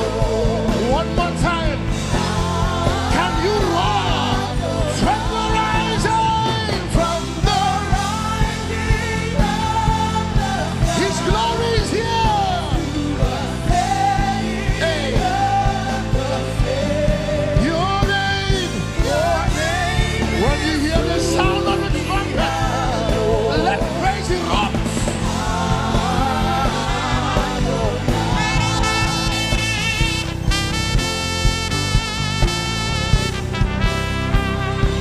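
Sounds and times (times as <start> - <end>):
solo voice singing: 0.0 - 30.2
band playing steady beat: 0.0 - 35.0.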